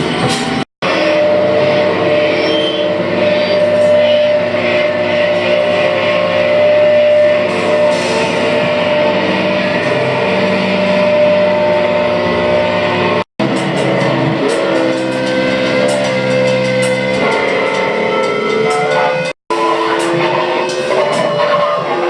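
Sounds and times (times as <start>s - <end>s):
experimental drone music: 0.0s - 22.0s.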